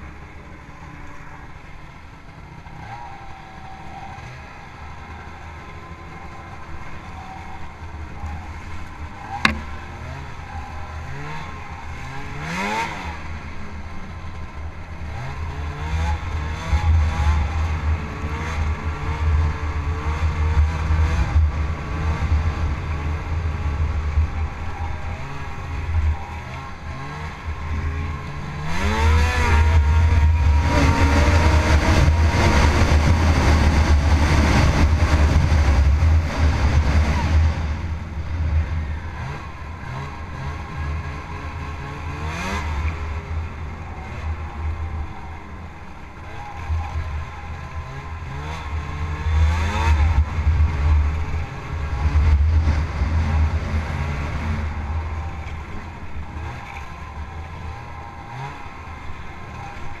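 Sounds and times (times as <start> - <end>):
snowmobile engine revving: 4.2 - 14.0, 14.9 - 60.0.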